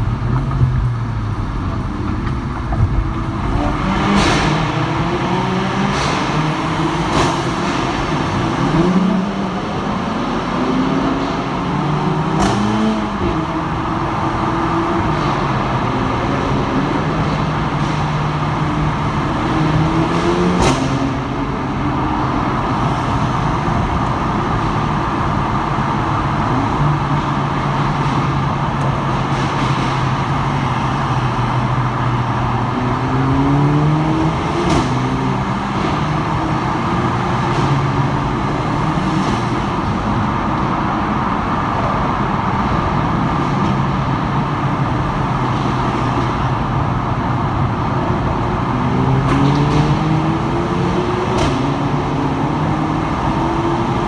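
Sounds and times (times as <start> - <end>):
car engines accelerating: 0.0 - 54.0.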